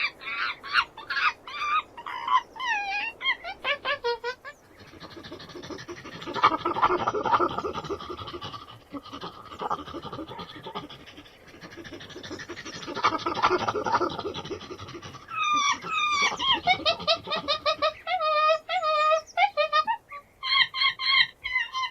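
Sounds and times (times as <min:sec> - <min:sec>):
monkeys chattering: 0:00.0 - 0:21.9.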